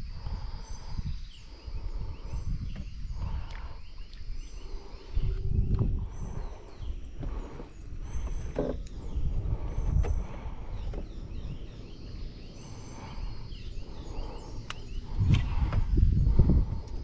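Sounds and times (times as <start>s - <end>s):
birds chirping: 0.0s - 17.0s
low rumble of handling noise: 0.0s - 17.0s.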